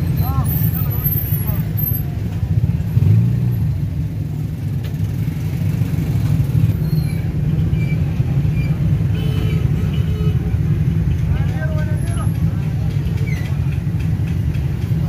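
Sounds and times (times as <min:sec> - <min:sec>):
motorcycle engine and road rumble: 0:00.0 - 0:15.0.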